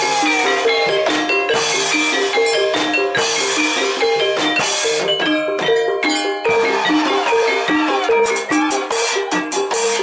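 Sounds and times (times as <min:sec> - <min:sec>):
drum strokes: 0:00.0 - 0:10.0
gamelan ensemble playing: 0:00.0 - 0:10.0.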